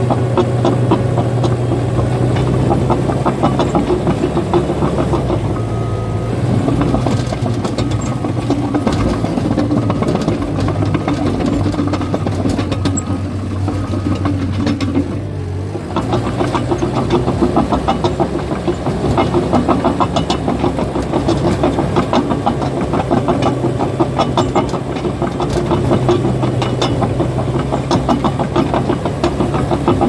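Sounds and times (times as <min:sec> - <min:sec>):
bulldozer diesel engine under load: 0:00.0 - 0:30.0
steel tracks clanking and rattling: 0:00.0 - 0:30.0.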